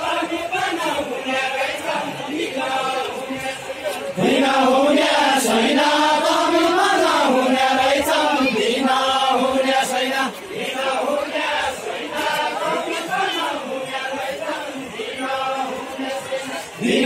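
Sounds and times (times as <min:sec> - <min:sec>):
men singing a folk chant: 0:00.0 - 0:17.0.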